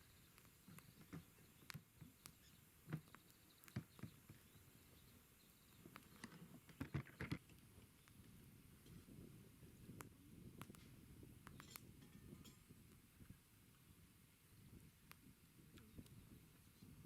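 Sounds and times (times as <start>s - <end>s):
campfire crackling and popping: 0.0s - 5.0s, 5.7s - 17.0s.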